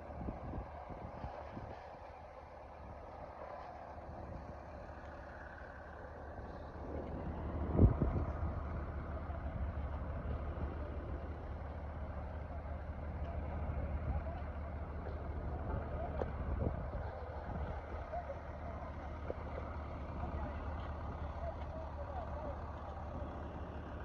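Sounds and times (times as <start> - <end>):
low rumble of vehicle traffic: 0.0 - 24.0.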